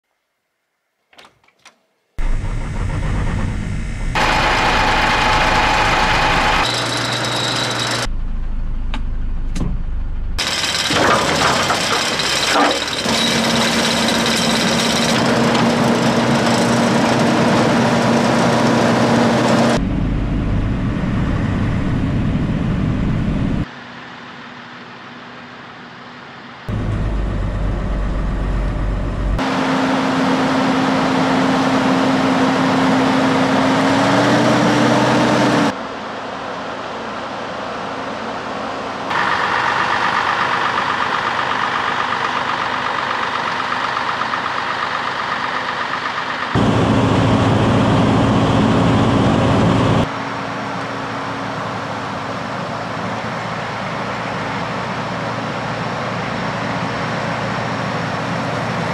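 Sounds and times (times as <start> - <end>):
diesel snowblower engine running: 2.2 - 9.4, 10.2 - 23.7, 26.7 - 37.0, 37.9 - 58.9.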